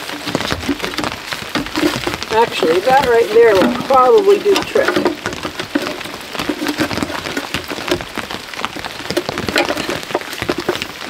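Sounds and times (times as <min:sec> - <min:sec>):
raindrops ticking on umbrella: 0:00.0 - 0:11.0
steady rain: 0:00.0 - 0:11.0.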